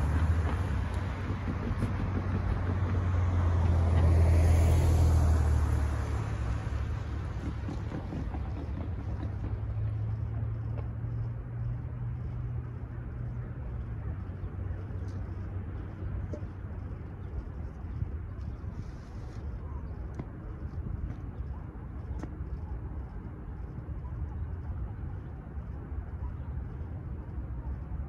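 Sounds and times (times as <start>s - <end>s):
engine and tyre hum: 0.0s - 28.0s.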